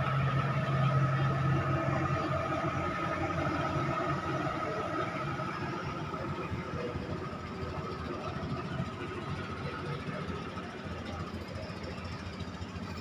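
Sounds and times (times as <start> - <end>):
boat engine humming: 0.0 - 13.0
engine whine: 0.0 - 13.0.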